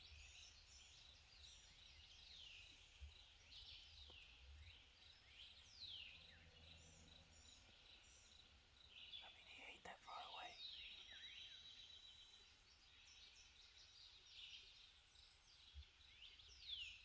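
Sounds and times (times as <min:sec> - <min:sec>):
faint songbirds calling: 0:00.0 - 0:17.0.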